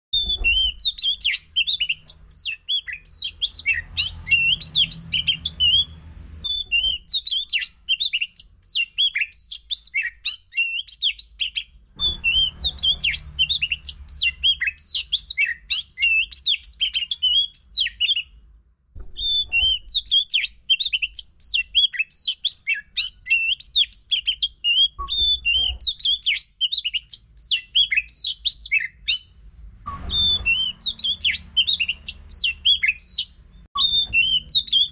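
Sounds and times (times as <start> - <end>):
bird whistling and chirping: 0.2 - 18.4, 19.1 - 34.9.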